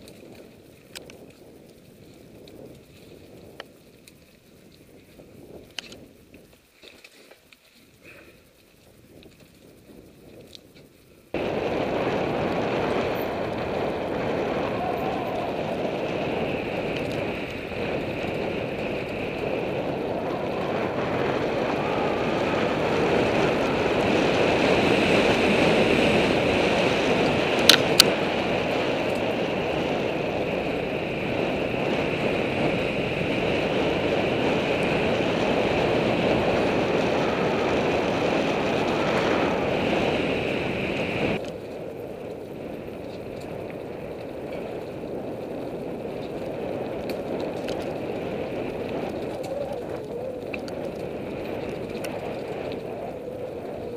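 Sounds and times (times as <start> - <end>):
wind rushing over microphone: 0.0 - 6.6, 8.1 - 53.9
bike tyres on dirt: 0.0 - 53.9.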